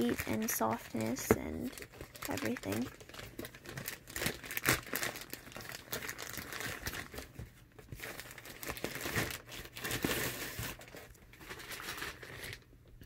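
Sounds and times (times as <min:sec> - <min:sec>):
plastic tearing: 0:00.0 - 0:12.7
plastic mailer bag crinkling: 0:00.0 - 0:12.8.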